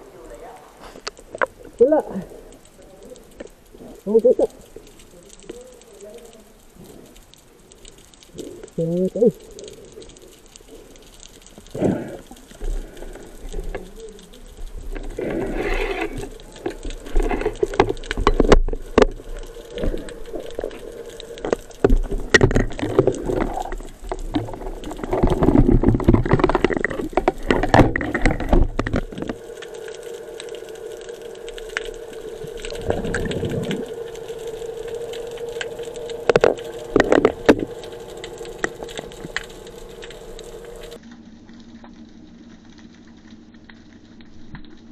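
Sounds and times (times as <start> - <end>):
underwater bubbling: 0.0 - 44.9.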